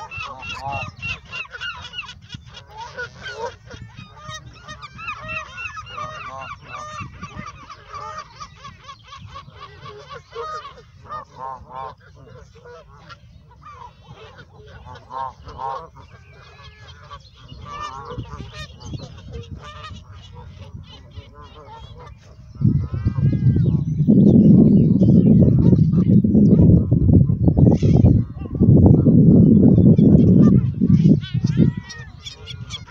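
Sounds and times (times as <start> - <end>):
geese honking: 0.0 - 23.9, 29.8 - 32.9.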